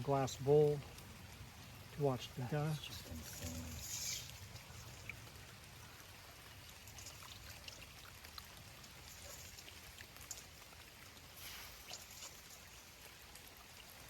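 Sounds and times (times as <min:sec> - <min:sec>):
faint trickling water: 0:00.0 - 0:14.0
small water drips: 0:00.0 - 0:14.0.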